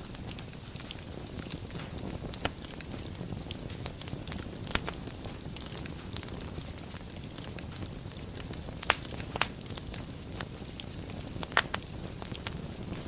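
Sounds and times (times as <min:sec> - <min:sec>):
wood fire hissing and crackling: 0:00.0 - 0:13.0.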